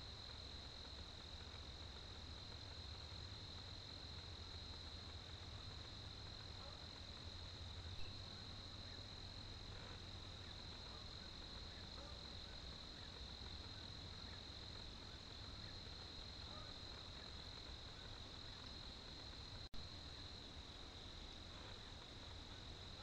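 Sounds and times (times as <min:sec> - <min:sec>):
insect chorus trilling: 0:00.0 - 0:23.0.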